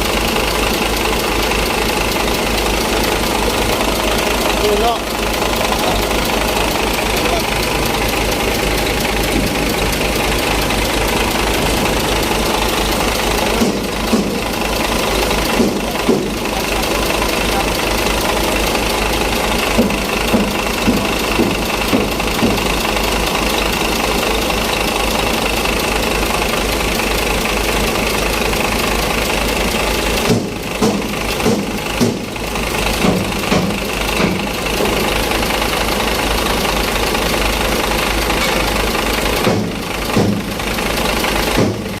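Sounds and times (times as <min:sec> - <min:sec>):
diesel truck engine running: 0:00.0 - 0:42.0
engine knocking pulses: 0:00.0 - 0:42.0.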